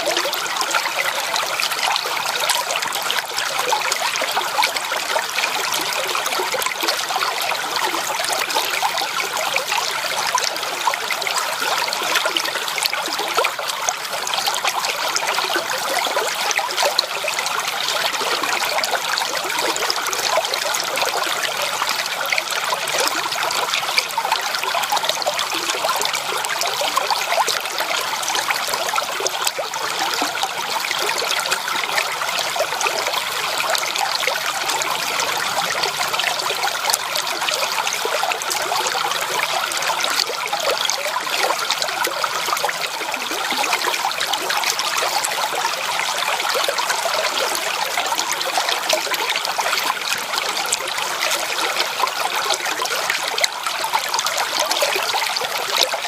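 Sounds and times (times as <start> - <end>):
creek water babbling over stones: 0.0 - 56.0.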